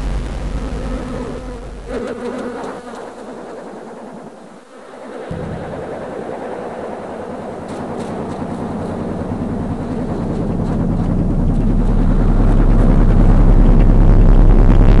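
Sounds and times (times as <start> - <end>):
low rumbling drone: 0.0 - 2.0, 4.7 - 15.0.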